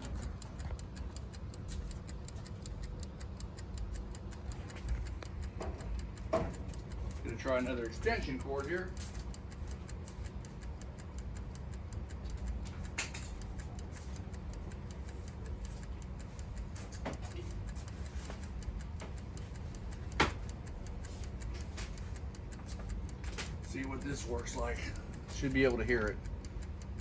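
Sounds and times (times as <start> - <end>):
mechanical timer ticking: 0.0 - 27.0.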